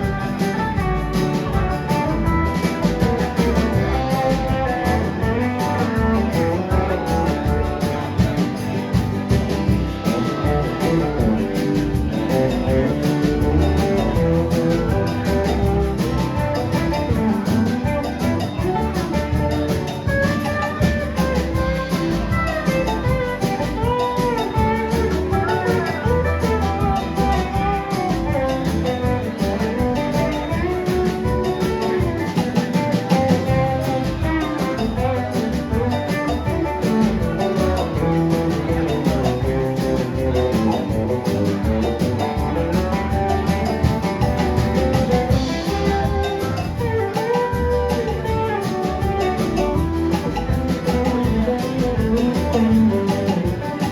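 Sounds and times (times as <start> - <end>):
band music: 0.0 - 53.9
guitar melody: 0.0 - 53.9.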